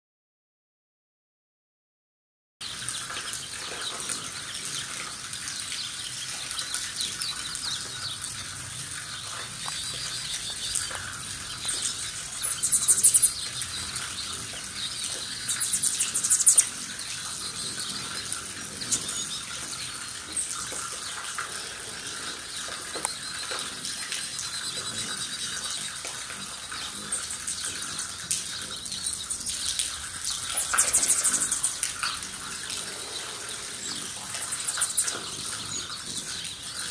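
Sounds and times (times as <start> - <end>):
hummingbirds whirring and chittering: 2.6 - 36.9.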